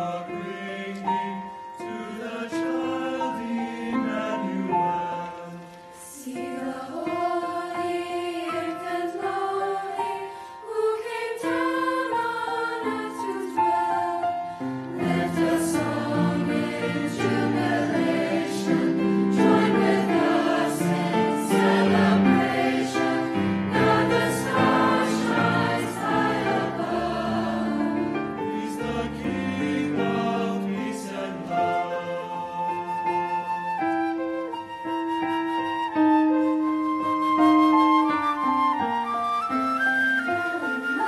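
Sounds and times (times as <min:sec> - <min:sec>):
choir singing in parts: 0:00.0 - 0:33.4.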